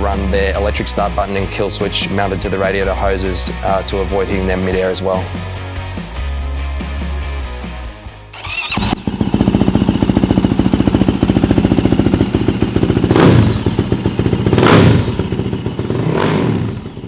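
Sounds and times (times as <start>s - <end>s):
motorcycle engine idling and revving: 0.0s - 6.1s, 8.3s - 17.0s.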